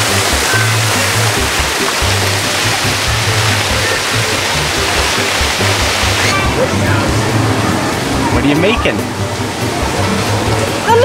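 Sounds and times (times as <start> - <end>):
background music with bass: 0.0 - 11.0
waterfall splashing into pool: 0.0 - 11.0.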